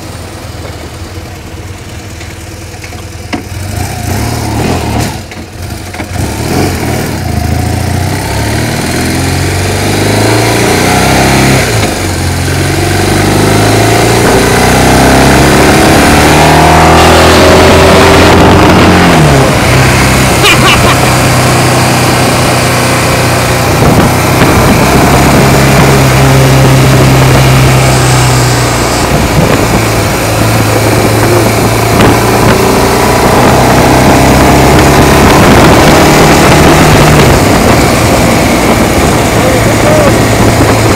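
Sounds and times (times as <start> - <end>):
motorcycle engine accelerating: 0.0 - 40.9
rush of noise: 6.2 - 40.9.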